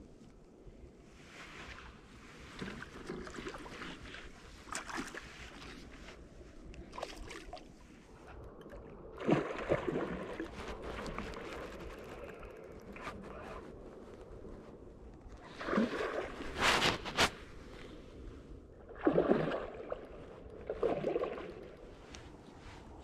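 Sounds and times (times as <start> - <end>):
water splashing and sloshing: 0.2 - 23.0.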